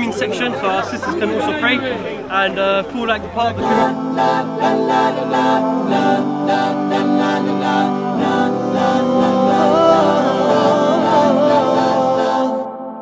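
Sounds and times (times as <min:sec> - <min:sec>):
voices singing devotional melody: 0:00.0 - 0:13.0.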